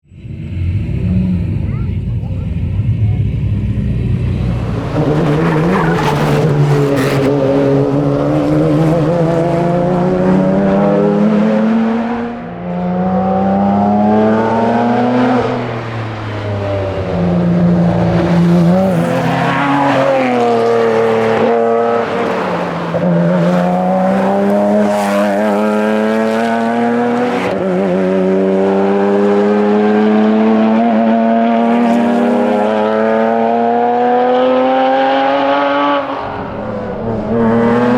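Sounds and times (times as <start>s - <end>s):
car engine revving through gears: 3.3s - 37.9s.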